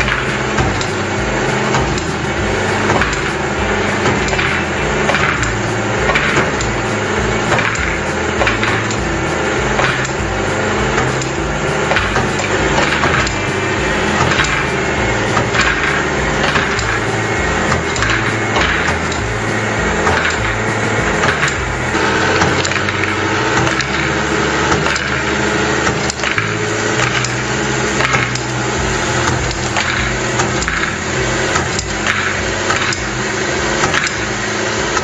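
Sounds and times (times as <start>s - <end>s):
plastic balls clattering on rails: 0.0s - 35.0s.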